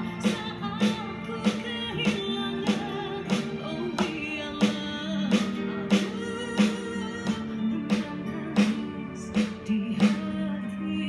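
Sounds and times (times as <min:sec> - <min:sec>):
song through speakers: 0:00.0 - 0:11.0.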